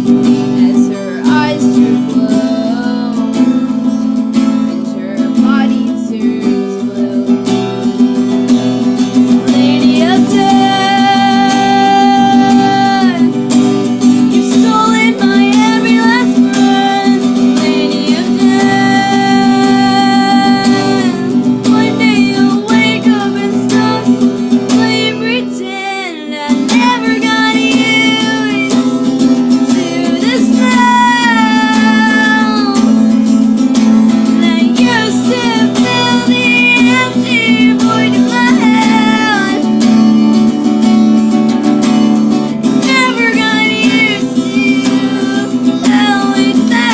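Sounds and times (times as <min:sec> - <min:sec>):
person singing long notes: 0:00.0 - 0:03.9, 0:04.7 - 0:07.8, 0:09.4 - 0:13.5, 0:14.3 - 0:28.8, 0:29.5 - 0:33.2, 0:34.3 - 0:40.0, 0:42.8 - 0:46.9
acoustic guitar strumming: 0:00.0 - 0:46.9.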